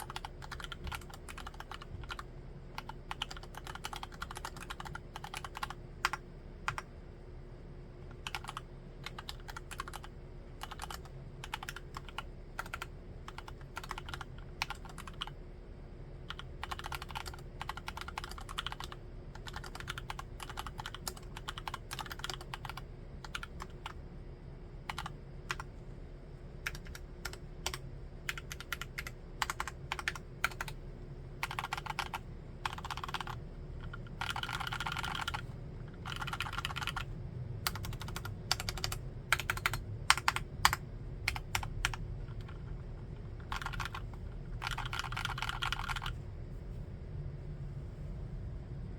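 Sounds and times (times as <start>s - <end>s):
mechanical keyboard typing: 0.0s - 6.9s, 8.1s - 15.4s, 16.3s - 24.0s, 24.9s - 25.7s, 26.6s - 30.8s, 31.4s - 46.2s
faint steady hum: 0.0s - 48.9s.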